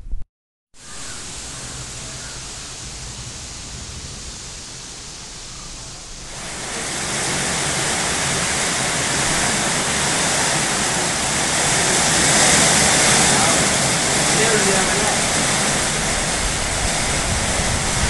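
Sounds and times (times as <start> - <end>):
heavy rain on trees: 0.8 - 18.0.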